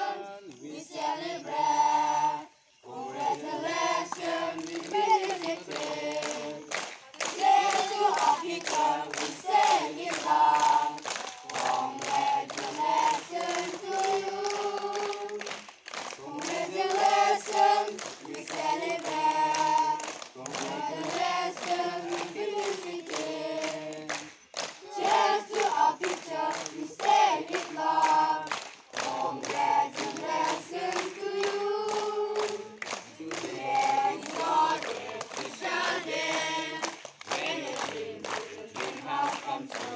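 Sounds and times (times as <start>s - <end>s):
group of voices singing: 0.0s - 39.9s
hands clapping: 3.0s - 39.9s.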